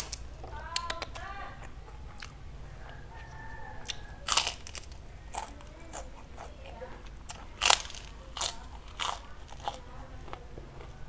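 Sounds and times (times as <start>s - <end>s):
cracker crunching: 0.0s - 11.0s.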